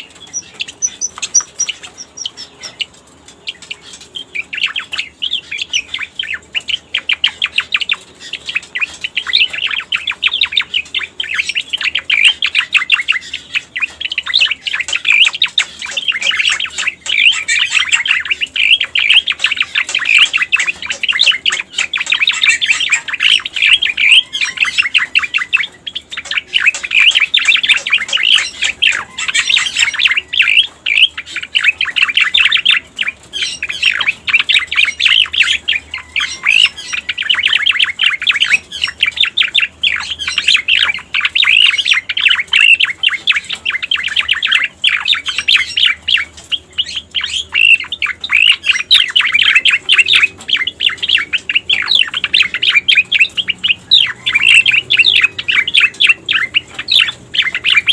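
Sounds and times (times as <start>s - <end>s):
bird chattering chirps: 0.0s - 57.9s.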